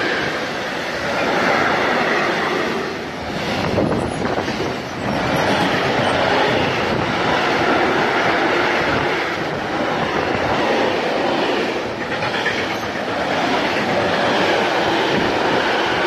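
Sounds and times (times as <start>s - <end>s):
steel wheels rolling on rail: 0.0s - 16.0s.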